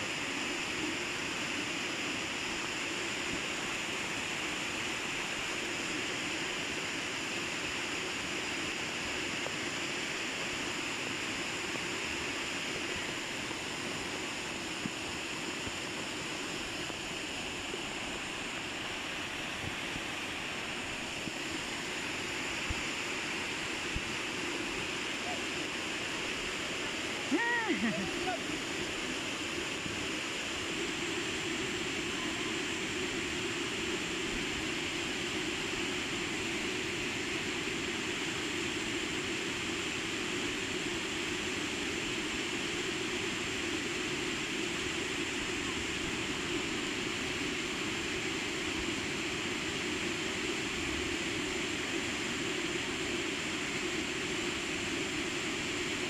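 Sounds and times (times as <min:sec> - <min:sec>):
waterfall rushing: 0:00.1 - 0:56.0.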